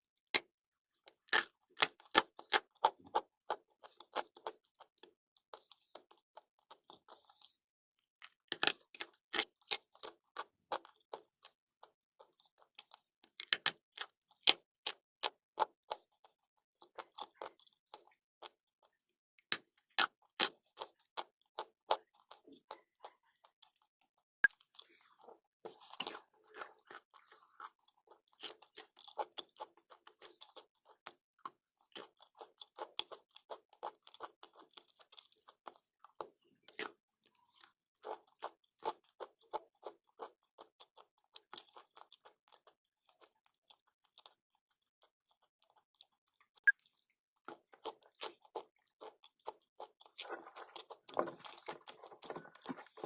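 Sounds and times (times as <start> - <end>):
chalk crunching being chewed: 0.4 - 53.0.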